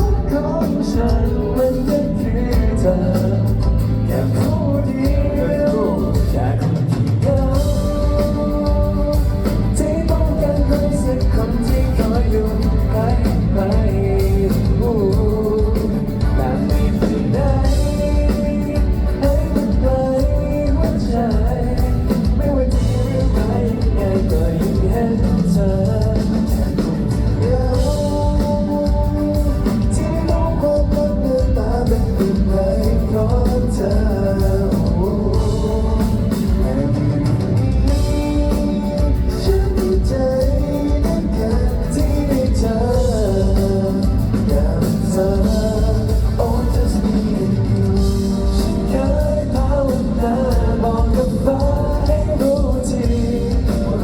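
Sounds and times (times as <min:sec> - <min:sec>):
backing music with drums and guitar: 0:00.0 - 0:54.0
person singing pop song: 0:00.0 - 0:54.0.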